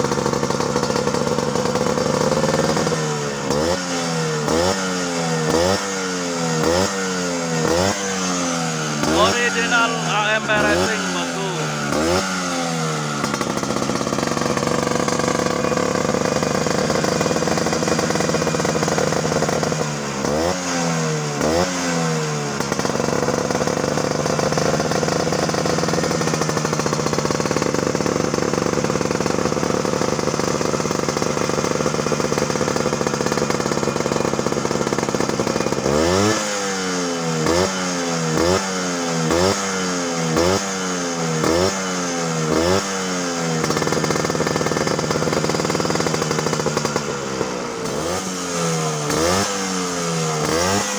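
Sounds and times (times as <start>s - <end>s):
scooter engine revving: 0.0s - 9.3s, 10.0s - 50.9s.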